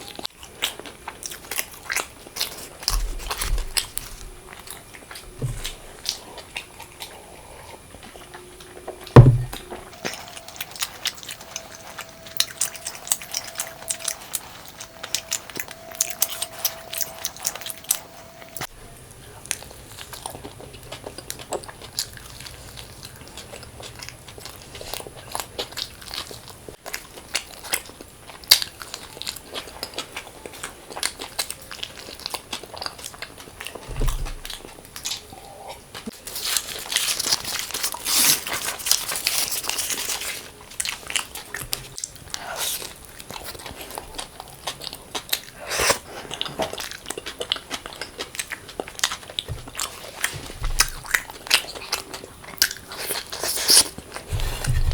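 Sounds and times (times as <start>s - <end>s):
person chewing food: 0.0s - 54.9s.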